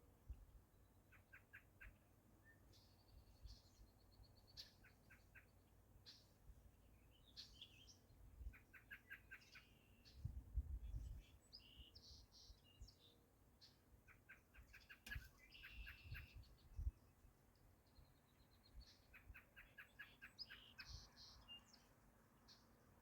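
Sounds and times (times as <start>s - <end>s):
birds chirping: 1.1s - 22.8s.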